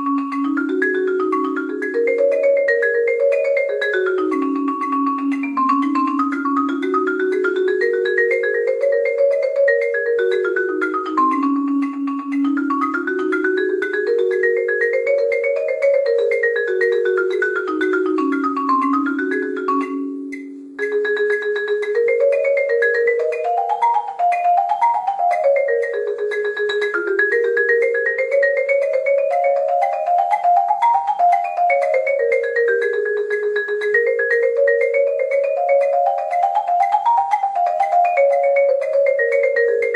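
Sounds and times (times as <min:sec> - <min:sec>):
marimba played with mallets: 0:00.0 - 0:39.9.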